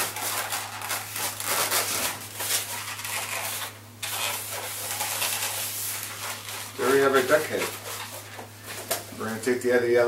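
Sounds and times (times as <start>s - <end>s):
balloons squeaking and rubbing: 0.0s - 8.6s
steady low hum: 0.0s - 10.0s.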